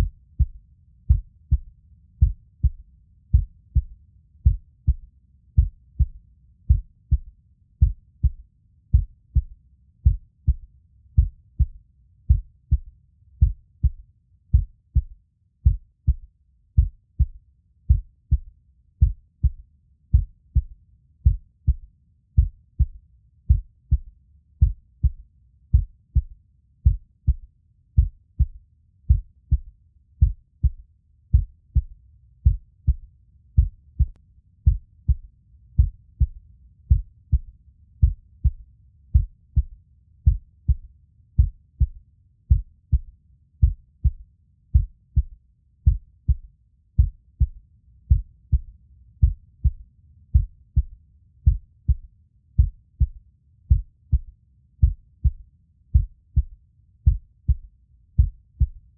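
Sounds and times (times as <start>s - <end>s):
heartbeat double thumps: 0.0s - 58.9s.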